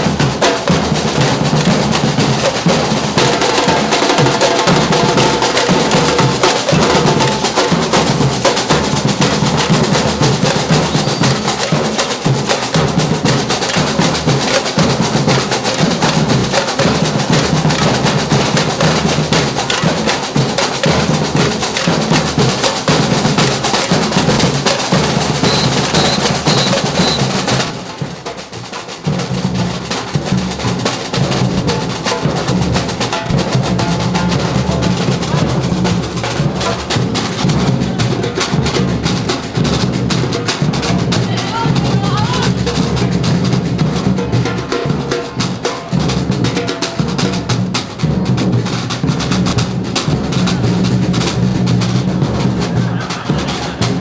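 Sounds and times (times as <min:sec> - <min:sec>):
street drum band playing: 0:00.0 - 0:54.0.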